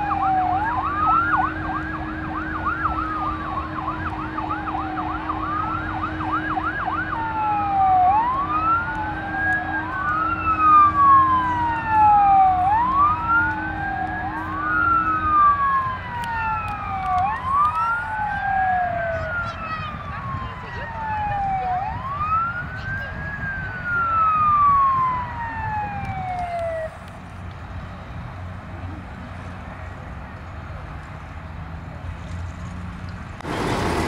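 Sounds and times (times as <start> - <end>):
fire truck sirens: 0.0 - 32.1, 32.9 - 34.0.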